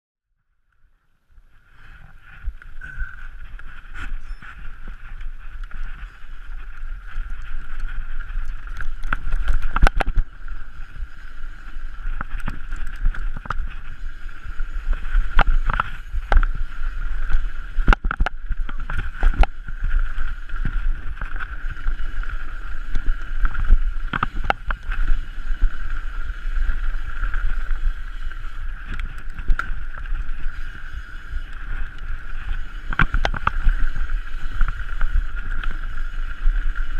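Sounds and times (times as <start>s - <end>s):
bike tyres and wind rumble: 0.5s - 36.9s
bike knocking and rattling: 2.2s - 36.9s.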